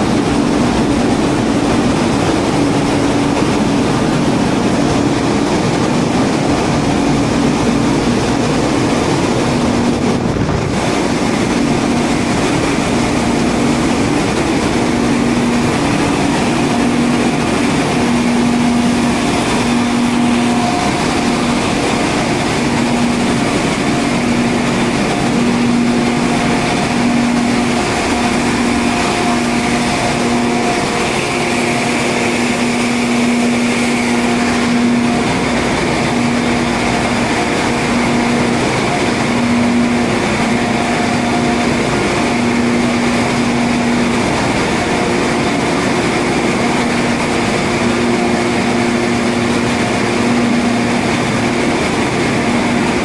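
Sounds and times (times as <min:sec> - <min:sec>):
low humming tone: 0:00.0 - 0:51.7
engine room machinery drone: 0:00.0 - 0:53.0.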